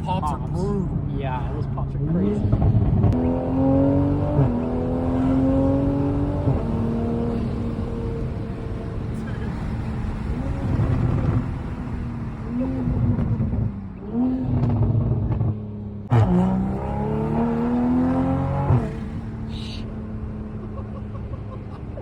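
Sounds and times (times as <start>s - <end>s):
sports car exhaust revving: 0.0s - 21.4s.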